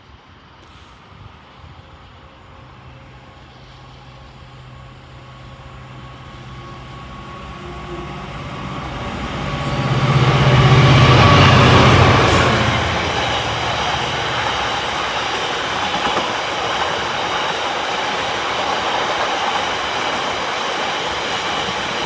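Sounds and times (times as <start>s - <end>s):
diesel locomotive engine: 0.0s - 22.0s.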